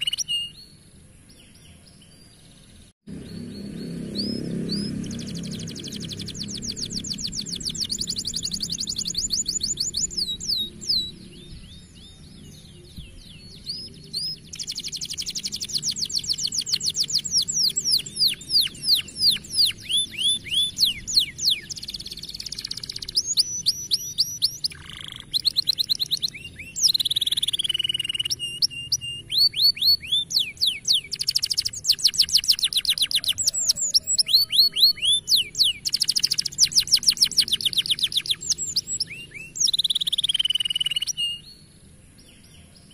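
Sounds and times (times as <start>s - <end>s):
canary singing trills: 0.0s - 0.8s, 1.4s - 42.9s.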